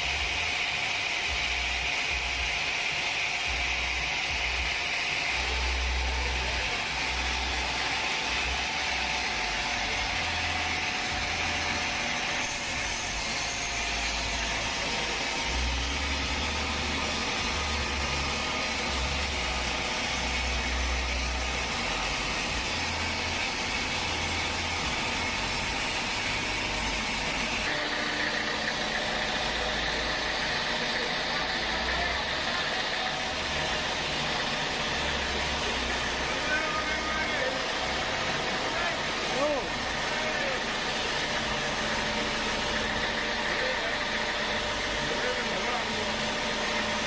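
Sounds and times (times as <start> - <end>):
sawmill machinery engine hum: 0.0 - 47.0.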